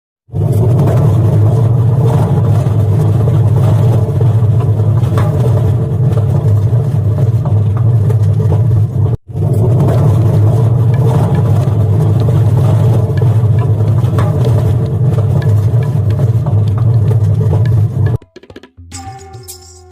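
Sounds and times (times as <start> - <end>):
washing machine spin cycle: 0.3 - 18.2.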